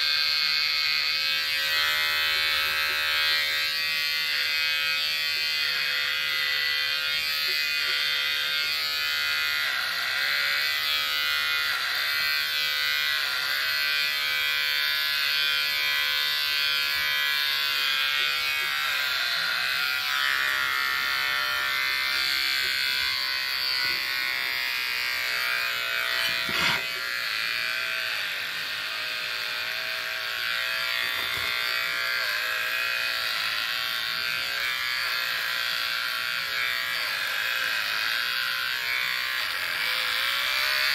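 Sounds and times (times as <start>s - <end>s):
electric hair clipper buzzing: 0.0s - 40.9s.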